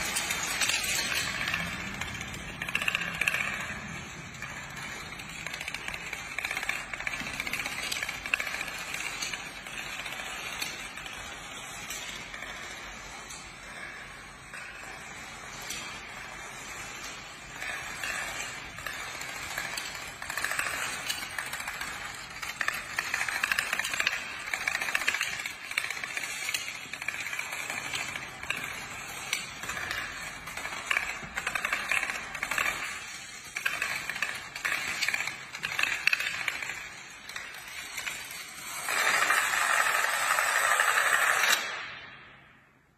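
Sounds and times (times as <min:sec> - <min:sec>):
dominoes clattering on tile floor: 0:00.0 - 0:42.0.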